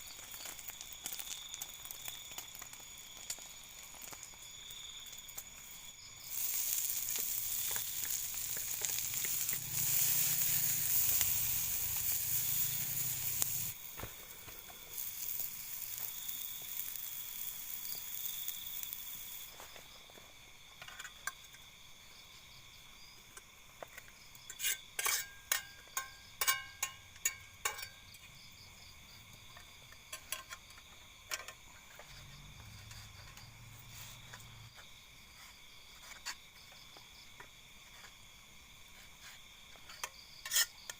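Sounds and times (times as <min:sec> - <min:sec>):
rice sizzling in a pan: 0:00.0 - 0:21.4, 0:23.2 - 0:40.9
insects trilling: 0:00.0 - 0:40.9.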